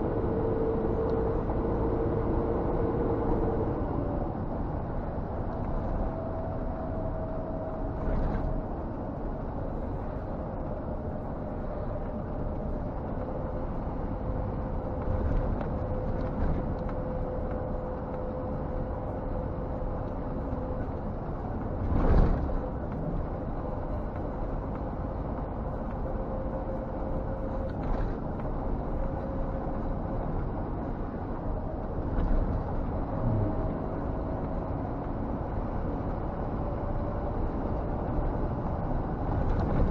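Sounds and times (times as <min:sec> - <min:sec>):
road noise: 0:00.0 - 0:39.9
truck diesel engine: 0:00.0 - 0:39.9.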